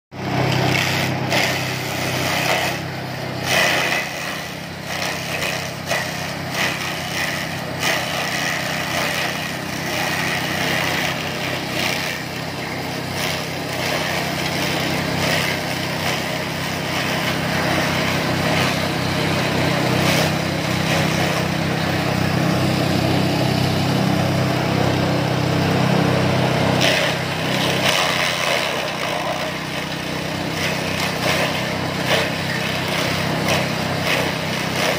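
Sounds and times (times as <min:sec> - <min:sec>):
chaff cutter machine hum: 0:00.1 - 0:34.9
blades chopping grass stalks: 0:00.4 - 0:23.2, 0:26.8 - 0:34.9.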